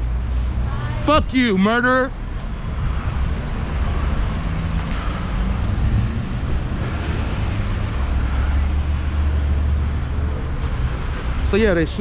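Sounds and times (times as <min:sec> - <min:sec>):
street traffic noise: 0:00.0 - 0:12.0
vehicle engines running: 0:00.0 - 0:12.0.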